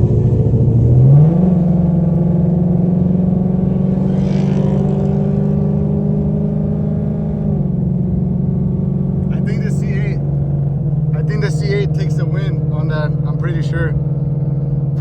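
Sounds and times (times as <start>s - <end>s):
car engine revving high: 0.0s - 15.0s
rush of wind or road noise: 0.0s - 15.0s.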